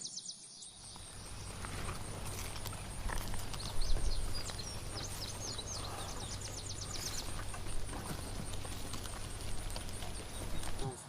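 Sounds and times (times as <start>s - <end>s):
small bird chirping and trilling: 0.1s - 10.9s
low steady rumble: 0.8s - 10.8s.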